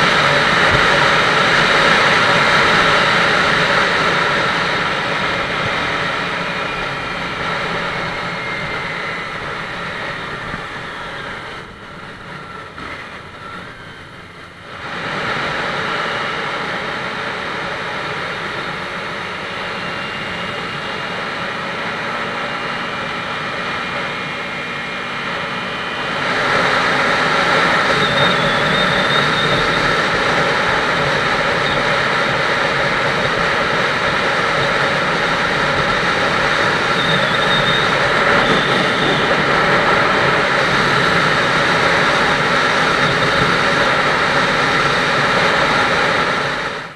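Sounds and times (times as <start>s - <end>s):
motorcycle engine running: 0.0s - 46.9s
wind rushing on microphone: 0.0s - 46.9s.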